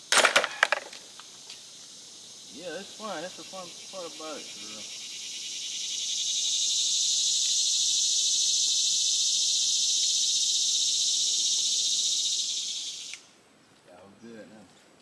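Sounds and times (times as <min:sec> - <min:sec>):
buzzing insects chorus: 0:00.0 - 0:13.3.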